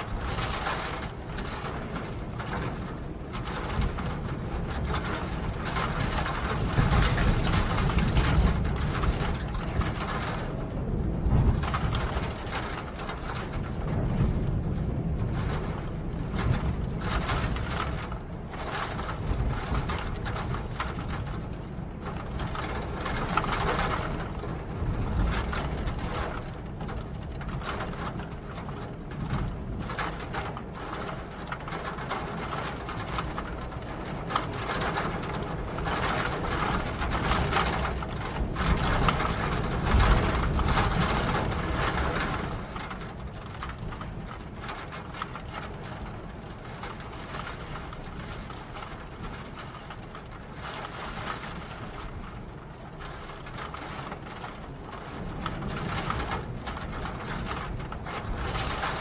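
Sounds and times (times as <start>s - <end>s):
rain pattering on hard surfaces: 0.0s - 59.0s.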